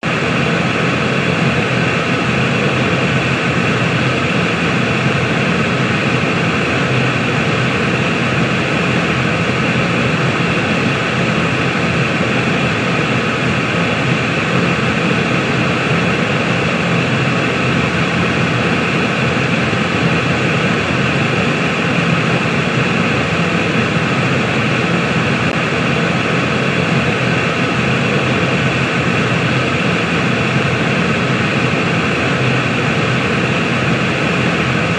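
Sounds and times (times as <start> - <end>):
steady white noise: 0.0 - 34.9.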